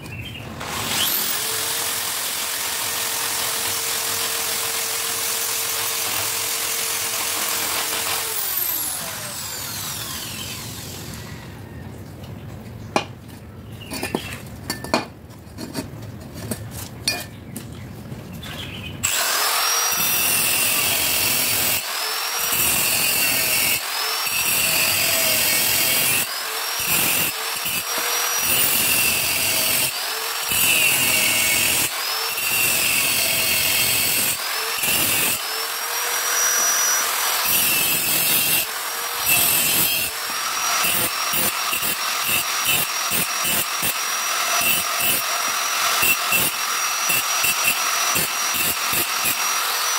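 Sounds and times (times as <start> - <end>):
angle grinder cutting steel: 0.6 - 11.4, 19.0 - 49.9.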